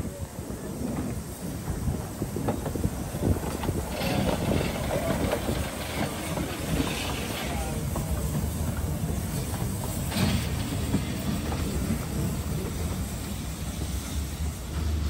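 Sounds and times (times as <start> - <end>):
steam hissing: 0.0 - 15.0
steam train rumbling: 0.0 - 15.0.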